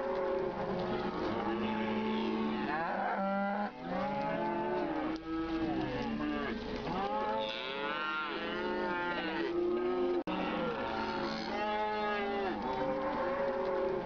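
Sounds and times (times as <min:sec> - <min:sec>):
cattle mooing: 0:00.0 - 0:14.0.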